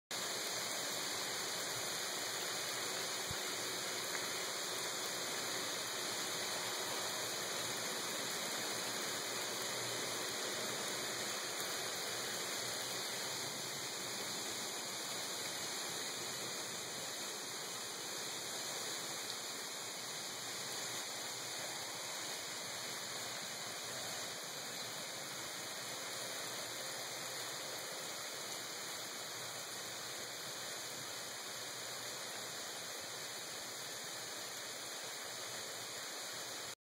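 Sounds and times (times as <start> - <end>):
hiss of falling snow and graupel: 0.1 - 36.8.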